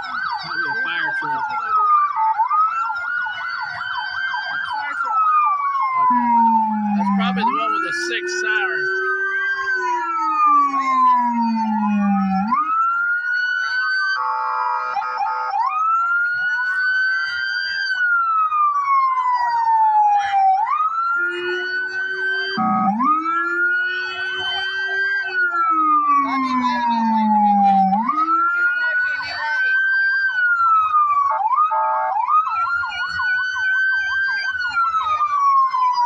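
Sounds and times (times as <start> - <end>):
electronic siren wailing: 0.0 - 36.0.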